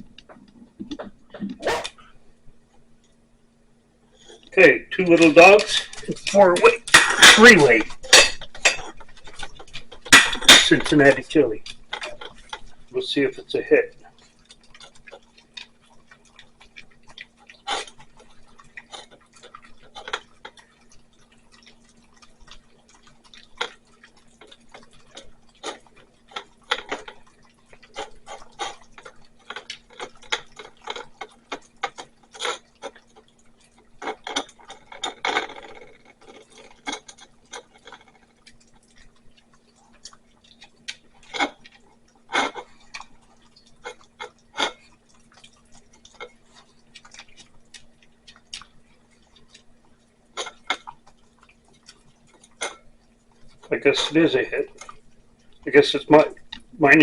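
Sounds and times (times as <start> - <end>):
faint steady hum: 0.0 - 57.0
dogs chewing and licking: 4.2 - 57.0.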